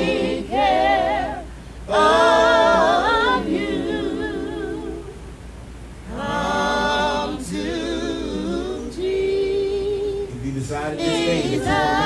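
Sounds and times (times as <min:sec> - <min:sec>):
unaccompanied gospel singing: 0:00.0 - 0:05.3, 0:06.0 - 0:12.0.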